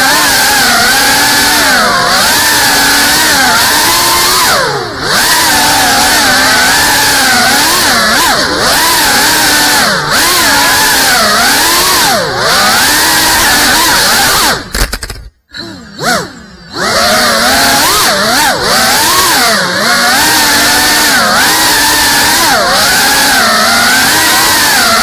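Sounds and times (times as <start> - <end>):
drone motors and propellers whining: 0.0 - 25.0.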